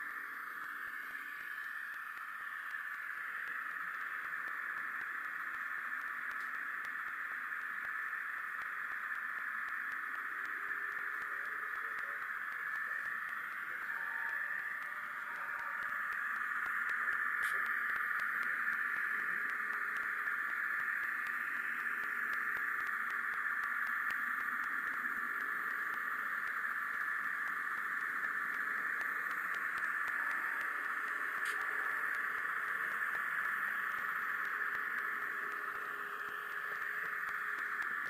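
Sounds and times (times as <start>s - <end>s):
faint ticks: 0.0s - 38.0s
steady static hiss: 0.0s - 38.0s.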